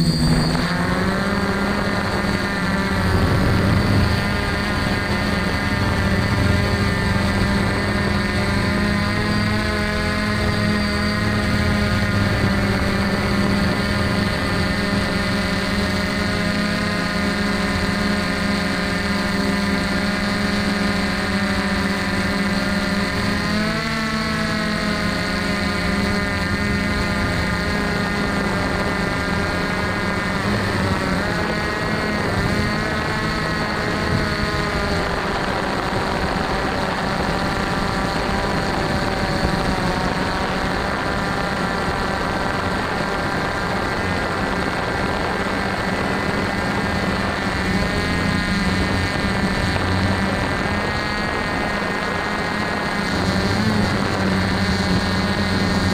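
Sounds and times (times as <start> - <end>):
drone propellers whirring: 0.0 - 55.9.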